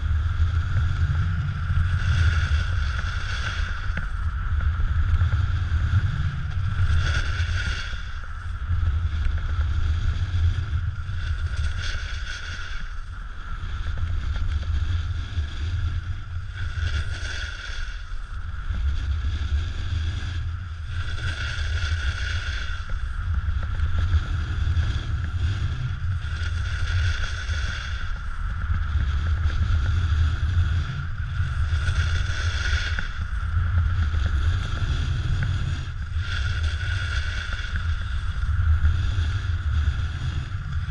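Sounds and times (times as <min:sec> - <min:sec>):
wind buffeting microphone: 0:00.0 - 0:40.9
snowboard scraping packed snow: 0:00.4 - 0:40.9.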